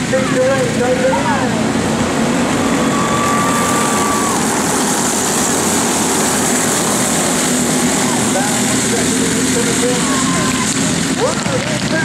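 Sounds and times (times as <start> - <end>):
go-kart engines droning: 0.0 - 12.0.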